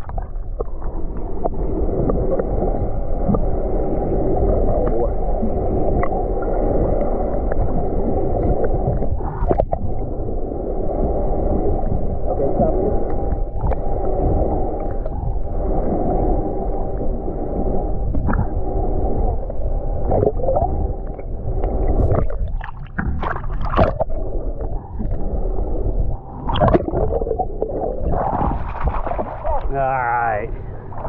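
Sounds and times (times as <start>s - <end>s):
water sloshing against hull: 0.0s - 31.0s.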